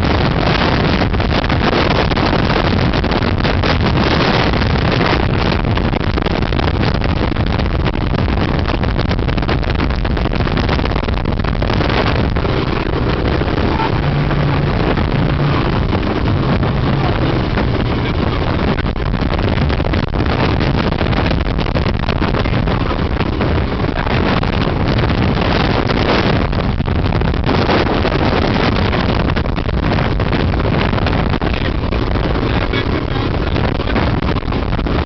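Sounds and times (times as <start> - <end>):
motorboat engine drone: 0.0 - 35.0
rushing water: 0.0 - 35.0
wind buffeting microphone: 0.0 - 35.0.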